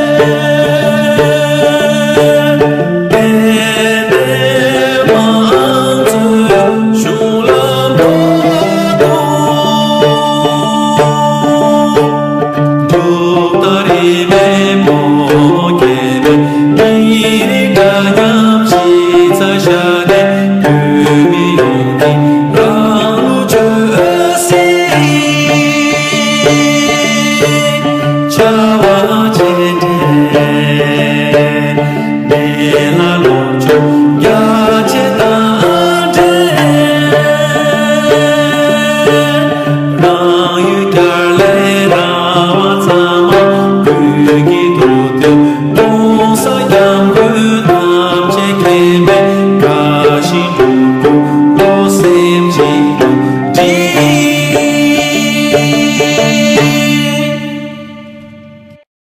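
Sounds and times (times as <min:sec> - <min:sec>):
man singing: 0:00.0 - 0:58.8
plucked lute strings: 0:00.0 - 0:58.8.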